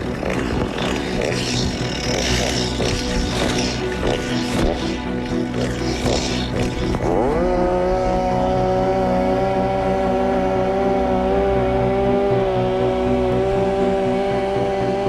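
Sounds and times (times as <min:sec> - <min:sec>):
chainsaw engine at full throttle: 0:00.0 - 0:15.0.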